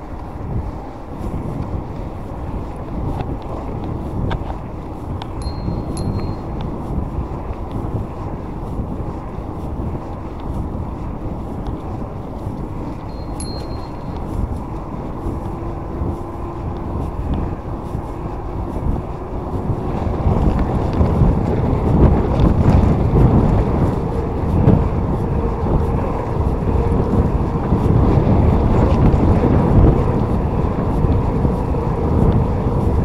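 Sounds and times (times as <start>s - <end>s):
bike tyre rumble: 0.0s - 33.0s
wind buffeting microphone: 0.0s - 33.0s.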